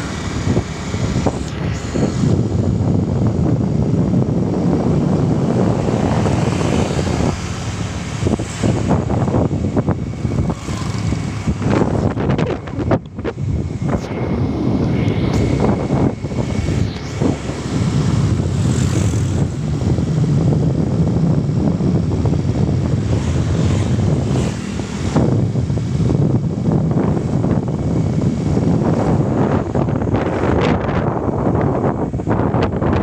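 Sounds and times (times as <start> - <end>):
steady low rumble: 0.0 - 33.0
wind buffeting microphone: 0.0 - 33.0.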